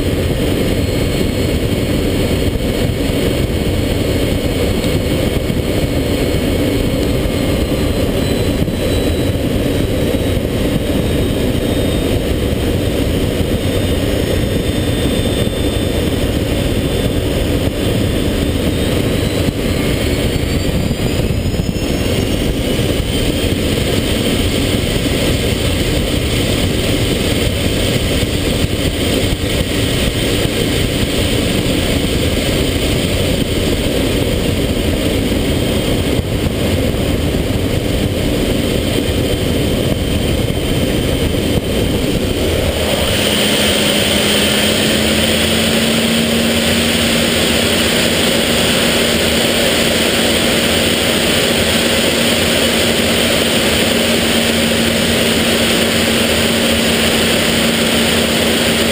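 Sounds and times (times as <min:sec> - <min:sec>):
jet engine and rushing airflow: 0:00.0 - 0:58.9
steady hum and high whine: 0:00.0 - 0:58.9.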